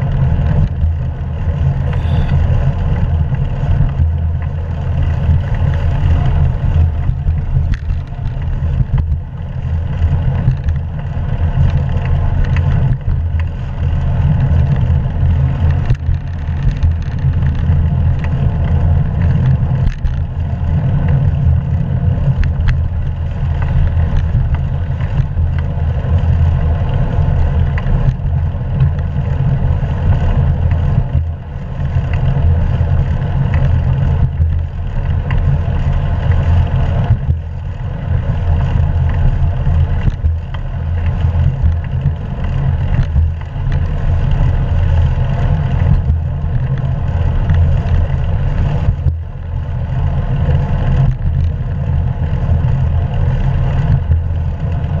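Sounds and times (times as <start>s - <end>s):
faint ticks and rattles: 0.0s - 55.0s
wind and road noise rumble: 0.0s - 55.0s.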